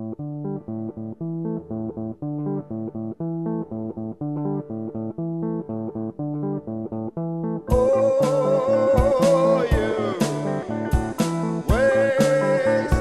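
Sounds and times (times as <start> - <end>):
plucked guitar riff over bass: 0.0 - 13.0.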